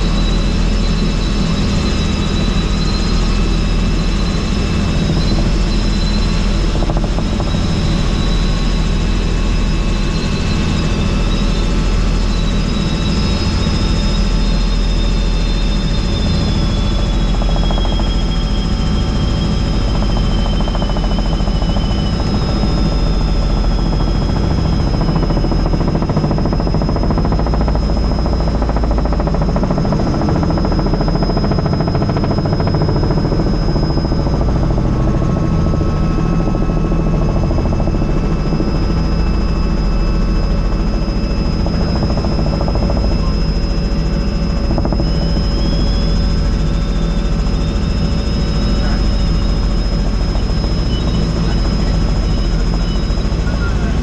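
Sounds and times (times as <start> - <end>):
helicopter rotor and engine noise: 0.0 - 54.0
high whine: 0.0 - 54.0.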